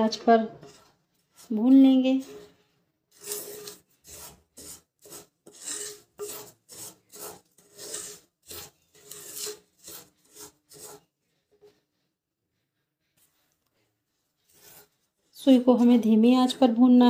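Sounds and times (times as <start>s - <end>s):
wooden spatula scraping a pan: 0.0s - 17.0s.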